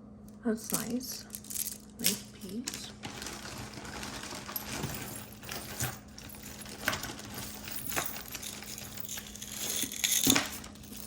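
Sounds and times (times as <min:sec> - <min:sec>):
jewelry clinking and rattling: 0:00.7 - 0:11.0.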